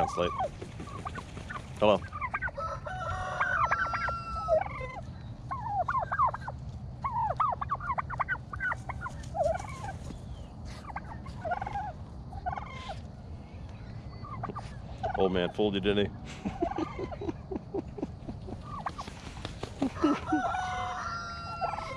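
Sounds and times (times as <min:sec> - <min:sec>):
turkeys gobbling: 0:00.0 - 0:13.1, 0:14.1 - 0:21.9.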